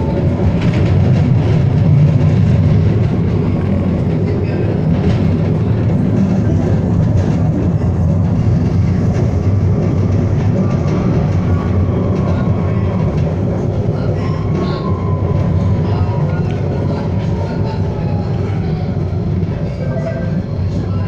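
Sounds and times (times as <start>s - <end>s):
tram rumbling on rails: 0.0s - 21.0s.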